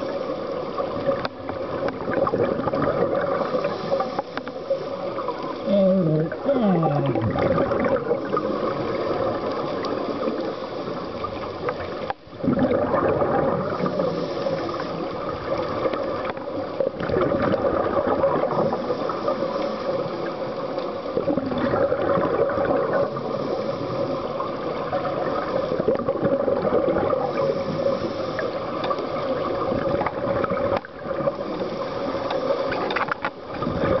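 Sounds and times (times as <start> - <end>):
underwater exhaled bubbles gurgling: 0.0 - 34.0.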